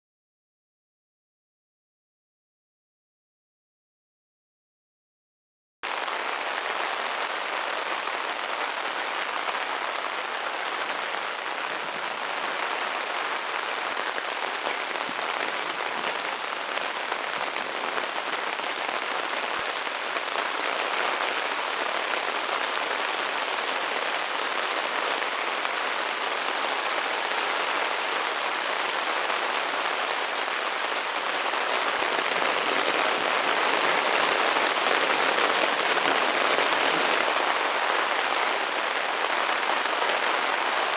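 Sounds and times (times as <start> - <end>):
heavy rain on umbrella: 5.8 - 40.9.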